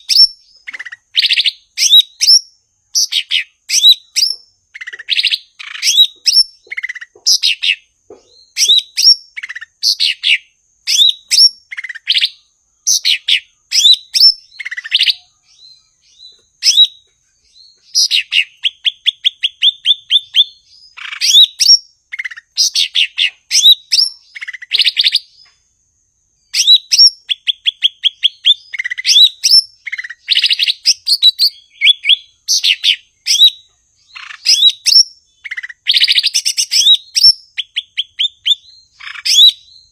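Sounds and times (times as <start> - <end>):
bird chirps and whistles: 0.0 - 25.6, 26.4 - 39.9.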